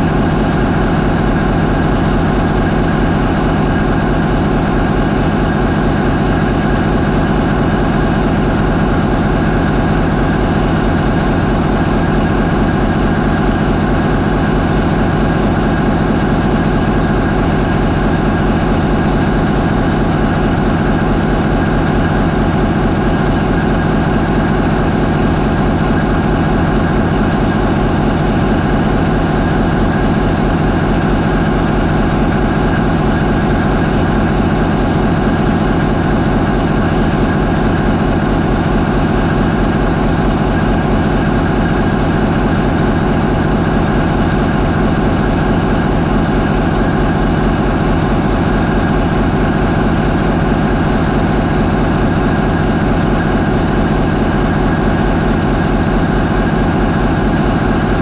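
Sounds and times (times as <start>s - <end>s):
marine diesel engine drone: 0.0s - 58.0s.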